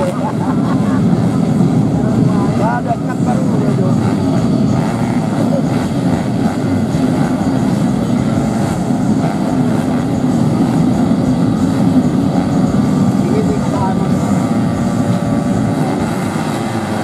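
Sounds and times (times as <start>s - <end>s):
motorcycles revving high: 0.0s - 17.0s.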